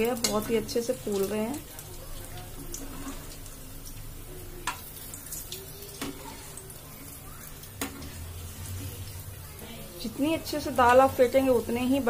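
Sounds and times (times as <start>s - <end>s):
oil sizzling while deep-frying: 0.0s - 12.0s.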